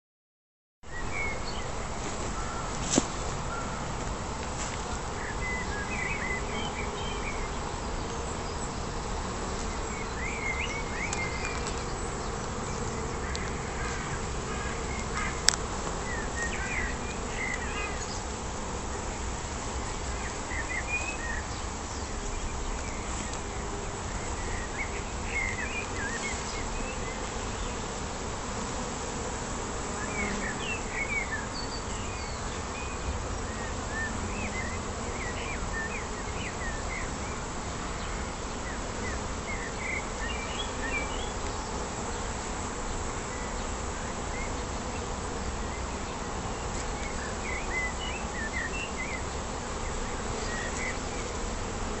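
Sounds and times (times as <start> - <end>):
bees buzzing: 0.9 - 52.0.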